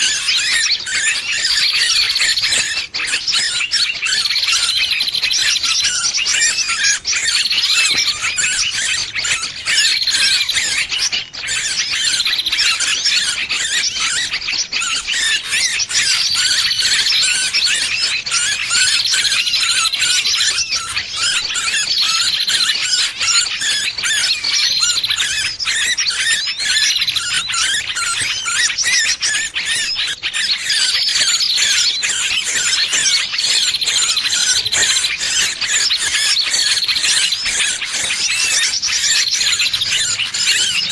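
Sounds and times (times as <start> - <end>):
small bird distress squeals: 0.0 - 40.9.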